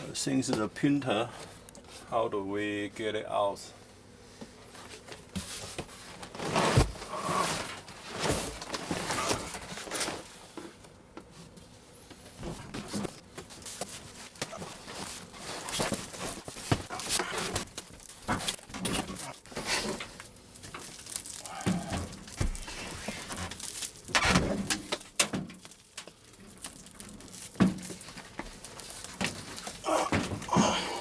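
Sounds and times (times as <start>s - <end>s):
cardboard and foam rustling: 4.6s - 30.8s.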